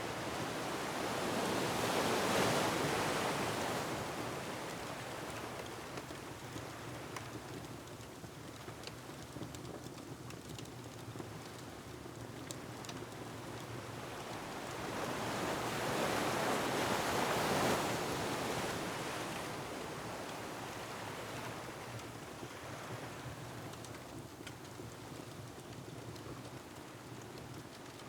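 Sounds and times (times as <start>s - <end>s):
faint wood fire crackles: 0.1s - 28.0s.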